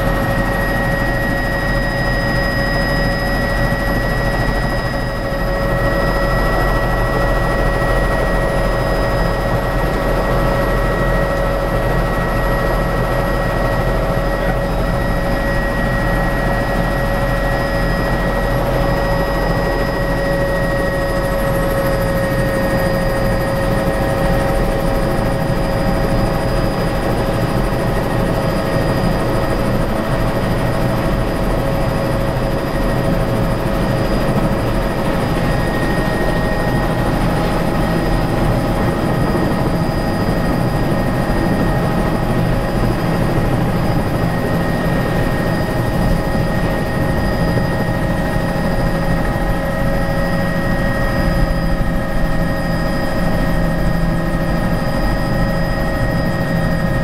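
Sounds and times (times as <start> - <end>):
helicopter engine and rotor: 0.0 - 57.0.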